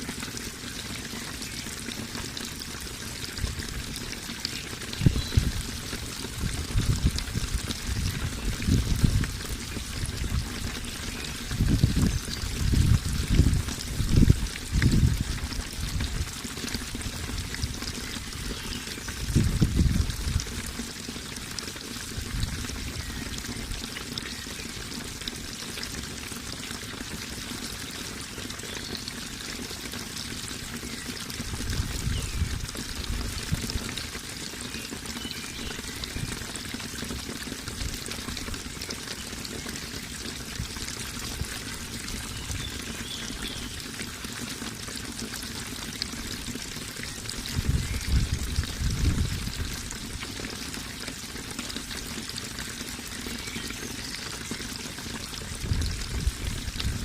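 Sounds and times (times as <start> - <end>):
water stream trickling: 0.0 - 57.0.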